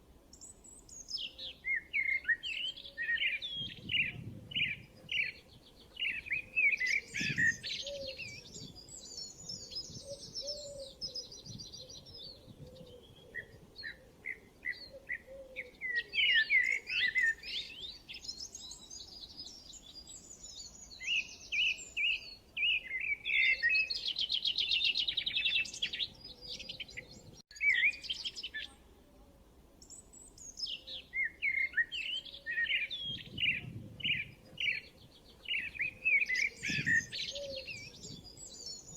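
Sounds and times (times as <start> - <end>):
birds chirping and singing: 0.4 - 28.8, 29.8 - 38.9.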